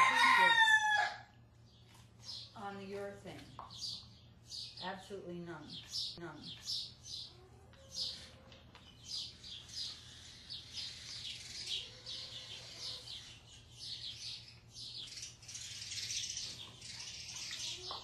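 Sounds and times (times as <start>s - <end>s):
small birds chirping: 1.5s - 18.0s.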